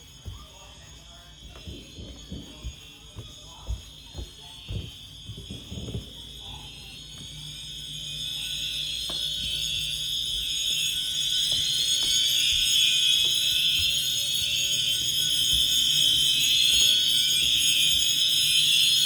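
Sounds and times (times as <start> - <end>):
fire alarm tone: 0.0 - 19.0.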